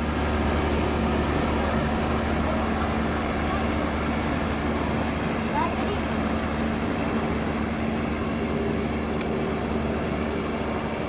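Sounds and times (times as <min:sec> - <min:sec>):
ship engines humming: 0:00.0 - 0:11.0.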